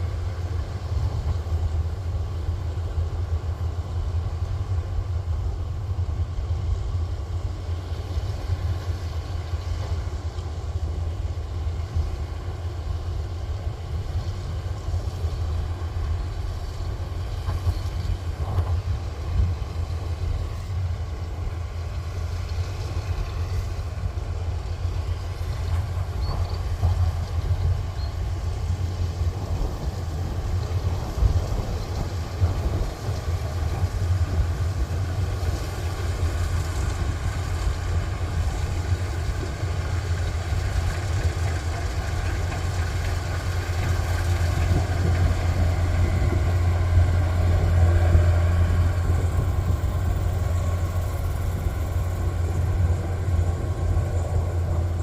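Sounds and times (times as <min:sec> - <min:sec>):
diesel engine droning under load: 0:00.0 - 0:55.0.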